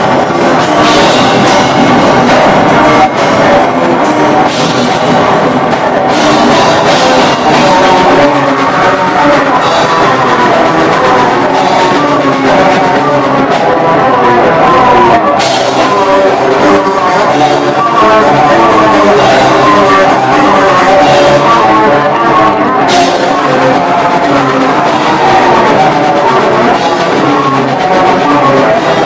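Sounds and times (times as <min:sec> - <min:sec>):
bass guitar: 0:00.0 - 0:29.0
distorted electric guitar: 0:00.0 - 0:29.0
drum kit: 0:00.0 - 0:29.0.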